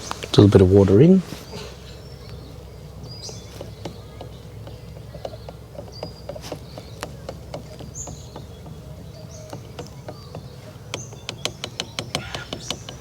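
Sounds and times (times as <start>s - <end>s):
low steady rumble: 0.0s - 13.0s
light clicks and taps: 1.3s - 13.0s.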